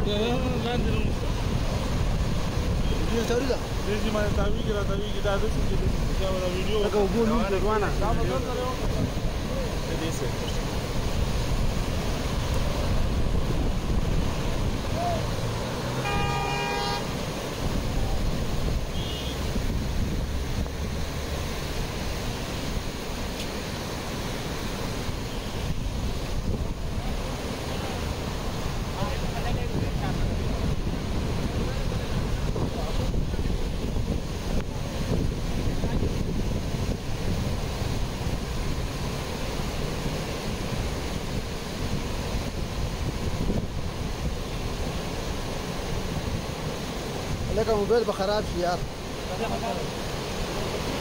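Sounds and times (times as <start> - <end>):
stream rushing over boulders: 0.0 - 51.0
wind buffeting microphone: 0.0 - 51.0.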